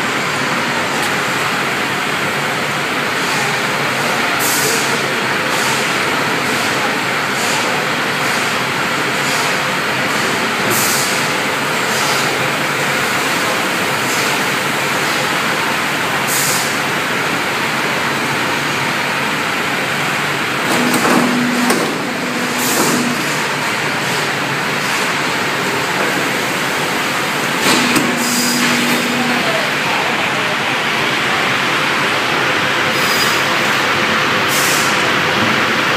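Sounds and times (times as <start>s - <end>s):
veneer dryer mechanical rush: 0.0s - 35.9s.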